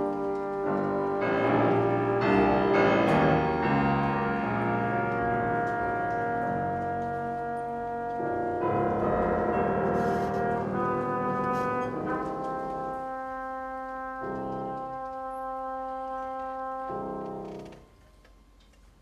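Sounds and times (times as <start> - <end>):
chamber orchestra music: 0.0 - 17.9.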